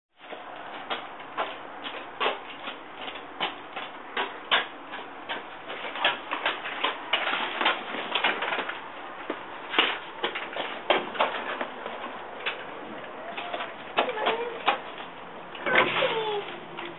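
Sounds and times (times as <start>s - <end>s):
small footsteps on concrete: 0.2s - 16.9s.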